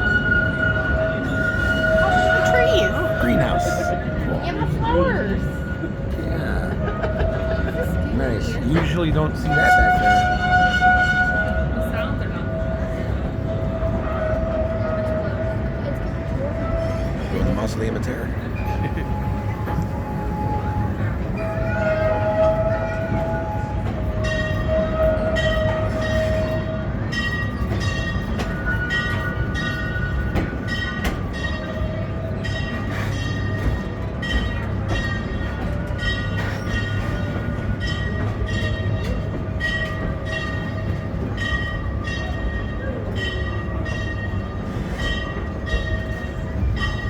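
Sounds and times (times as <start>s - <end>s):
train rumbling on track: 0.0s - 47.0s
train wheels clattering: 5.4s - 47.0s.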